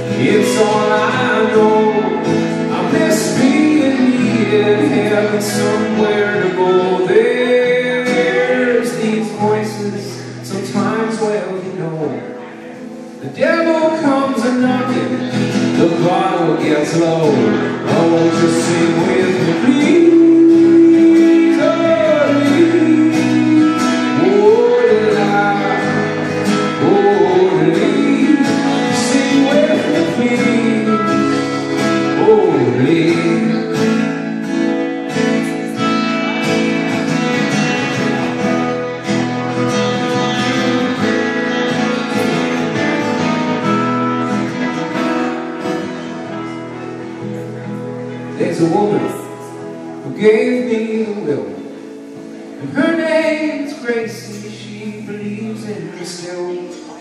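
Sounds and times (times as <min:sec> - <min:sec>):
person singing: 0:00.0 - 0:57.0
strummed acoustic guitar: 0:00.0 - 0:57.0.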